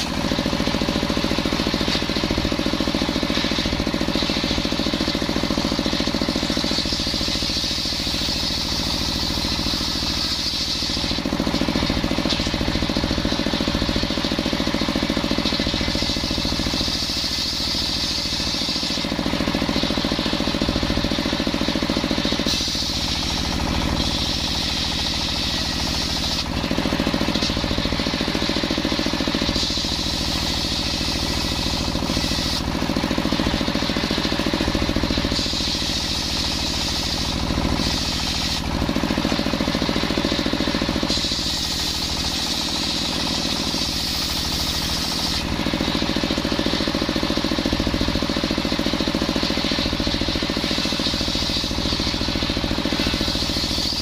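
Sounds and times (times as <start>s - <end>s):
saw blade hissing through wood: 0.0s - 54.0s
sawmill engine running: 0.0s - 54.0s.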